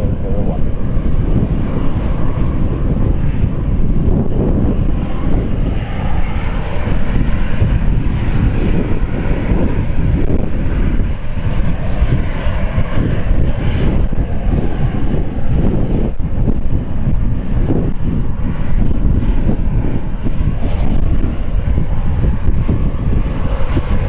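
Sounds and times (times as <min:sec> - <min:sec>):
aircraft engines running: 0:00.0 - 0:24.0
wind buffeting microphone: 0:00.0 - 0:24.0.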